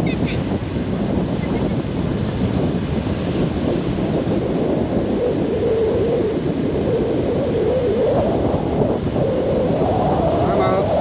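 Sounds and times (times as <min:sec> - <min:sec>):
surf breaking on beach: 0:00.0 - 0:11.0
wind noise on microphone: 0:00.0 - 0:11.0.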